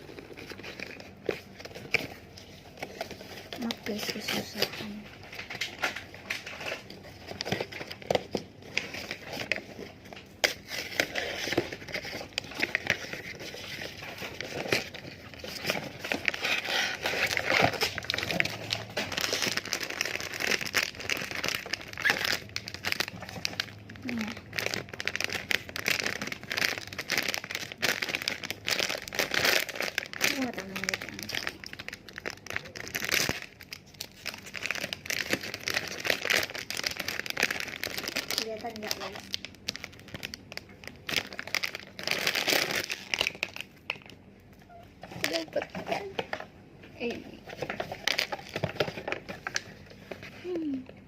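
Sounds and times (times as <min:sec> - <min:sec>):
packaging crinkling and tearing: 0:00.0 - 0:50.8.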